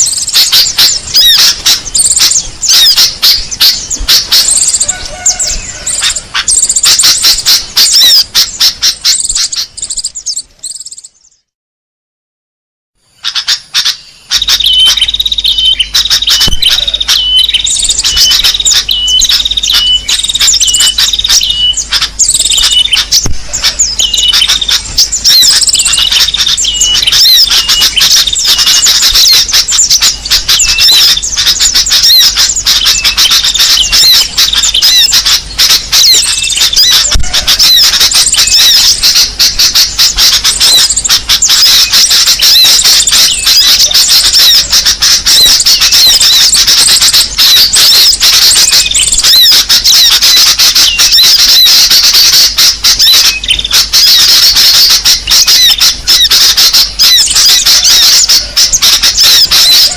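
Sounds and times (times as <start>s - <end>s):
songbirds chirping and twittering: 0.0s - 11.6s, 13.0s - 59.9s.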